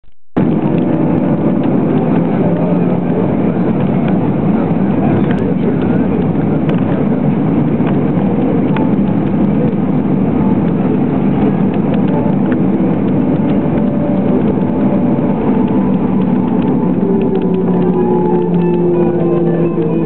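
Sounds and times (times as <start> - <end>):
faint steady tones: 0.4 - 20.0
jet engine rumble in cabin: 0.4 - 20.0.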